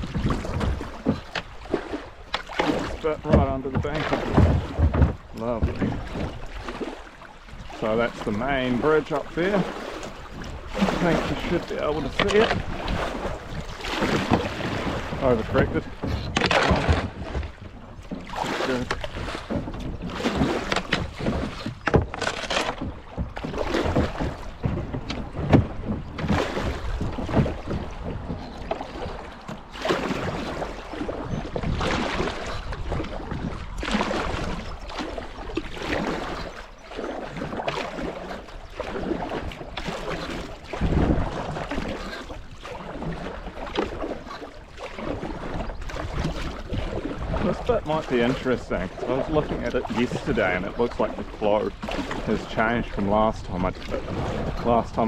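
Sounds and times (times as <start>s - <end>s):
paddle strokes splashing water: 0.0s - 55.0s
water rushing around hull: 0.0s - 55.0s.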